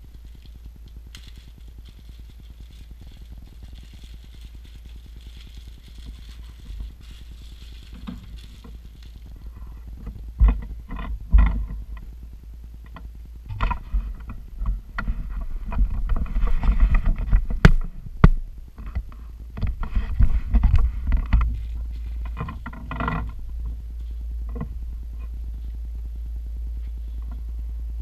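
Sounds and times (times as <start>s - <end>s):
handling rustling and clatter: 0.0s - 12.2s, 12.9s - 25.8s
steady low rumble: 0.0s - 28.0s.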